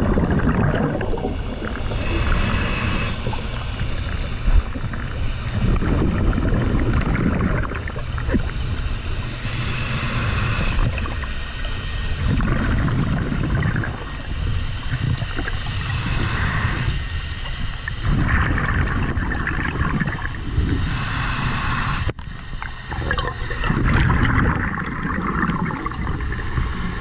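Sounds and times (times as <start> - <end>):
bubbling exhales underwater: 0.0 - 8.8, 12.2 - 17.0, 18.0 - 22.0, 22.6 - 27.0
low steady rumble: 0.0 - 27.0
hissing inhale through regulator: 0.9 - 19.2, 19.9 - 27.0.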